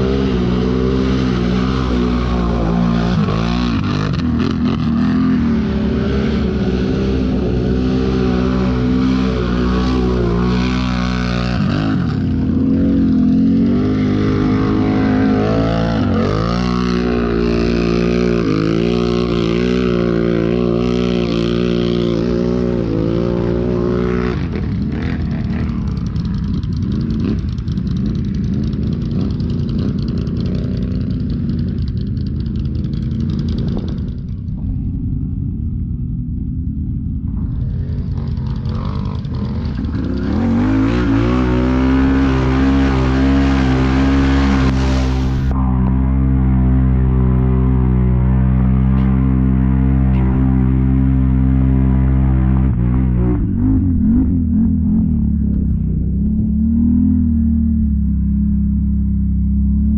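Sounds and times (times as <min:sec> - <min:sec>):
atv engine under throttle: 0:00.0 - 0:59.9.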